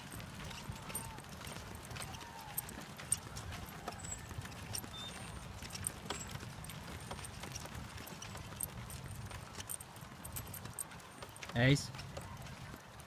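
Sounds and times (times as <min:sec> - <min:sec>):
footsteps on dirt: 0:00.0 - 0:13.0
wagon wheels rumbling on dirt: 0:00.0 - 0:13.0.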